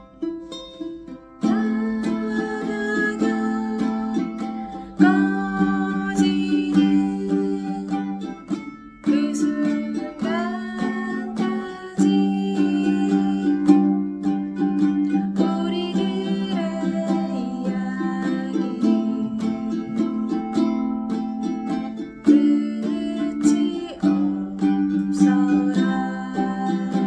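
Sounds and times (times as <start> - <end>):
ukulele picked in arpeggios: 0.0 - 27.0.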